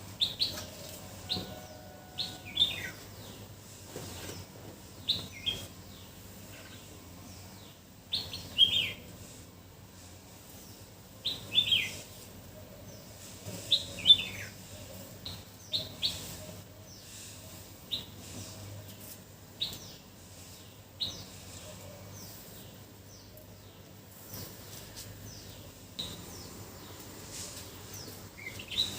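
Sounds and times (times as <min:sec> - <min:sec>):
bird chirping: 0:00.2 - 0:03.5, 0:04.1 - 0:09.1, 0:10.6 - 0:17.3, 0:19.6 - 0:28.9.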